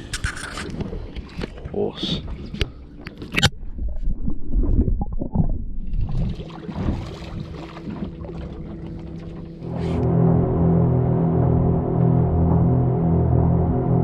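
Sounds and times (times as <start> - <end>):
water and wind rumble: 0.0 - 14.0.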